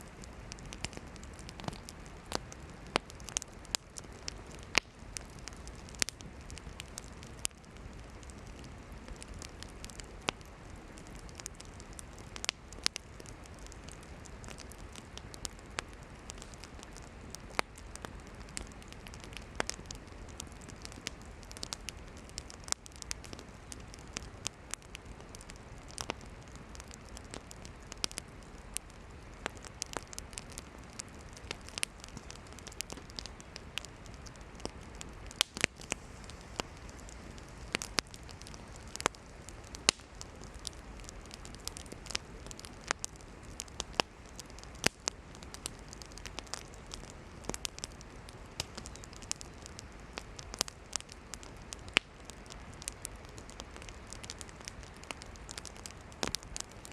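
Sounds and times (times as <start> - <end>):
campfire hissing: 0.0 - 56.9
firewood crackling and popping: 0.0 - 56.9.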